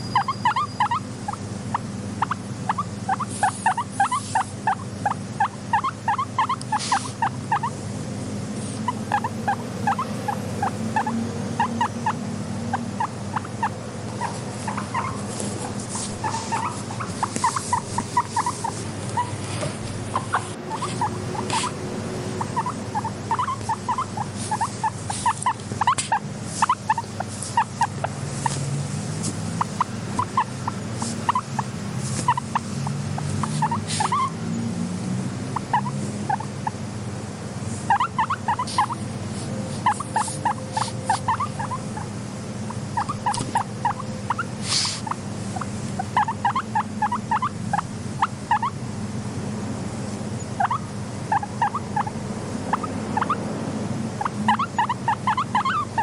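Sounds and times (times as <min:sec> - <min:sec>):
guinea pigs squeaking: 0:00.0 - 0:07.9, 0:08.6 - 0:34.7, 0:35.5 - 0:36.8, 0:37.7 - 0:48.8, 0:50.4 - 0:53.5, 0:54.1 - 0:56.0
steady low hum: 0:00.0 - 0:56.0.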